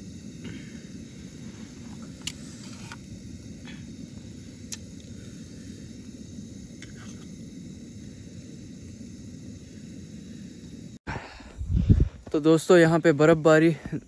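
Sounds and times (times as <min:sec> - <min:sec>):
gas camping stove burning: 0:00.0 - 0:14.0.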